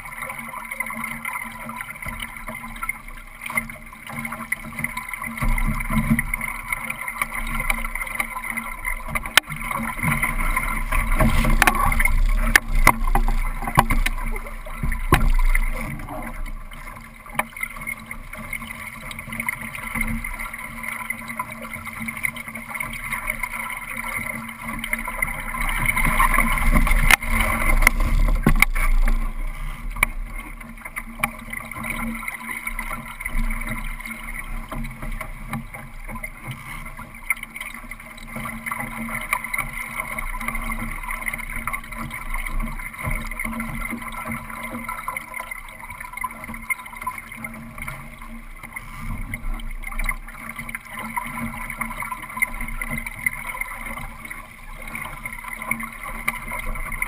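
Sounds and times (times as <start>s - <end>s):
water rushing along hull: 0.0s - 57.0s.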